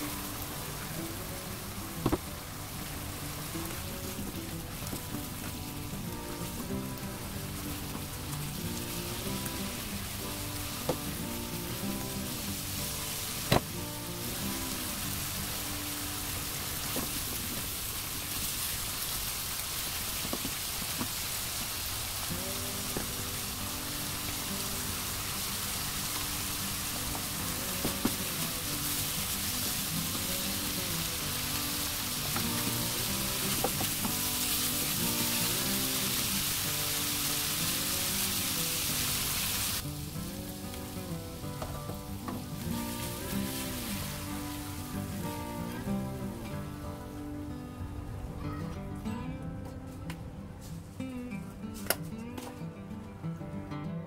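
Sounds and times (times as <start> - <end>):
food sizzling in a wok: 0.0 - 47.6.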